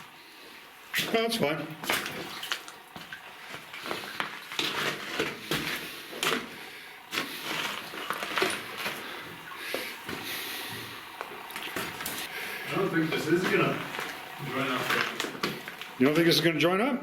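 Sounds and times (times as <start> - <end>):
footsteps on wet rocky floor: 1.0 - 16.0.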